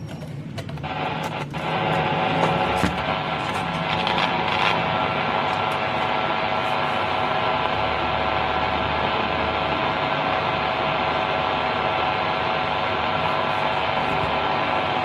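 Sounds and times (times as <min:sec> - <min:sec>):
amplifier speaker hum and hiss: 0:00.5 - 0:15.0.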